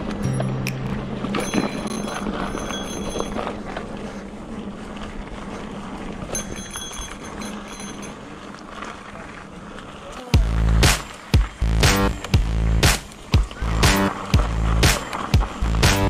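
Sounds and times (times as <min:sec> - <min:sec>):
bike rattling: 0:00.0 - 0:16.0
bike tyres on dirt: 0:00.0 - 0:16.0.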